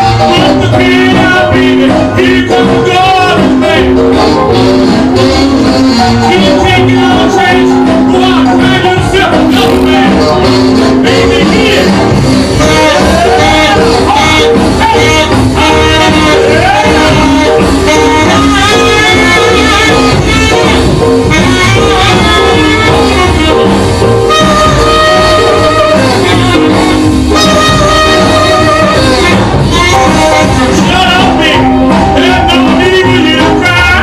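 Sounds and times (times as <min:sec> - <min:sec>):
band music with sliding lead notes: 0:00.0 - 0:34.0.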